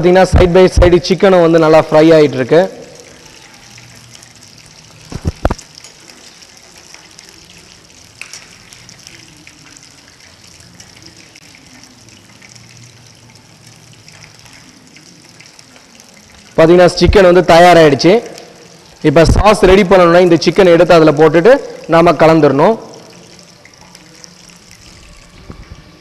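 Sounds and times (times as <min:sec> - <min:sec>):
chicken deep-frying in hot oil: 0:00.0 - 0:26.0.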